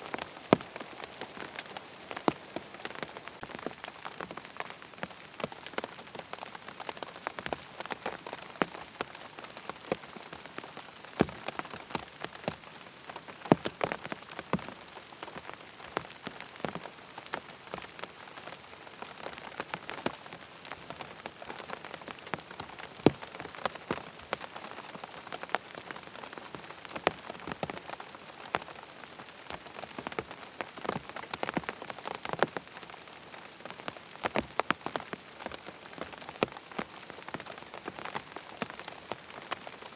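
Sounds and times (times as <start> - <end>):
close raindrops tapping: 0.0 - 39.9
rain on a hard surface: 0.0 - 39.9.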